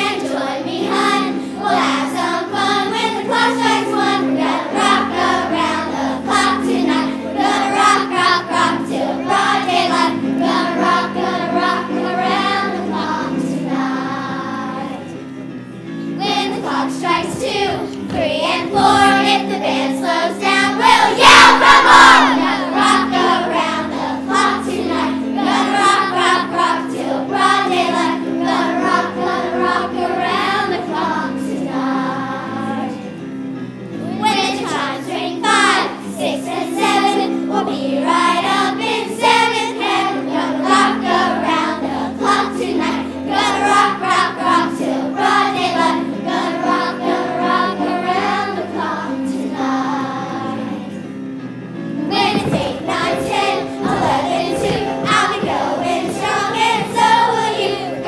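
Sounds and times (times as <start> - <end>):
children's choir singing: 0.0 - 51.2, 51.9 - 58.0
instrumental accompaniment: 0.0 - 58.0.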